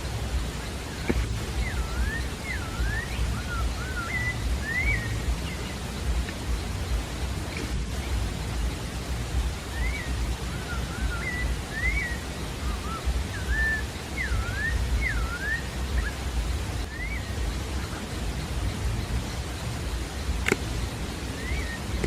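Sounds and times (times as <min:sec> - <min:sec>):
steady low rumbling noise: 0:00.0 - 0:22.0
thrush singing whistled notes: 0:00.0 - 0:22.0.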